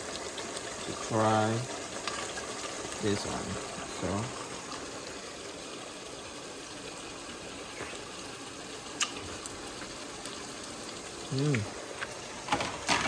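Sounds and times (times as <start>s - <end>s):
sauce simmering in a pan: 0.0s - 13.0s.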